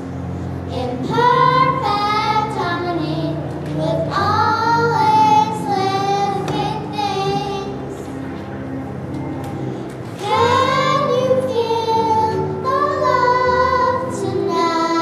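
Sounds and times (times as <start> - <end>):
keyboard accompaniment: 0.0 - 15.0
girls singing into microphones: 0.7 - 8.1, 10.1 - 15.0.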